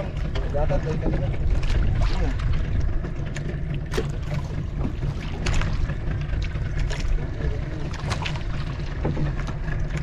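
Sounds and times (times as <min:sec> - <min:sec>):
boat engine rumble: 0:00.0 - 0:10.0.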